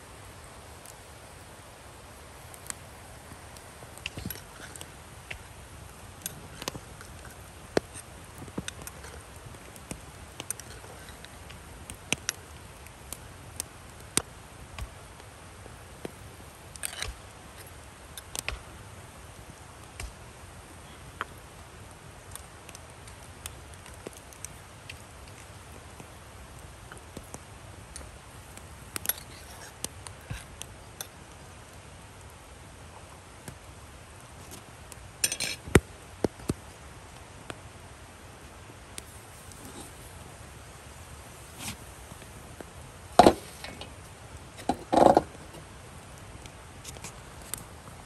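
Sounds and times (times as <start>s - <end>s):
faint steady hiss: 0.0s - 48.0s.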